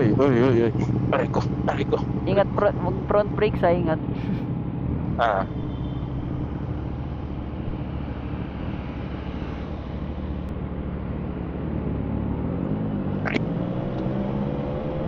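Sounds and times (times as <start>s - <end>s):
motorcycle engine accelerating: 0.0s - 15.0s
road and wind noise: 0.0s - 15.0s.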